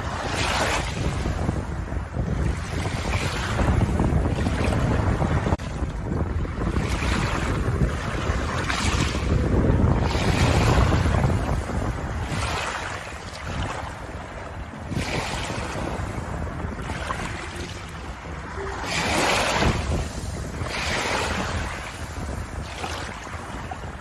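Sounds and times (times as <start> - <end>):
ocean waves washing in: 0.0 - 24.0.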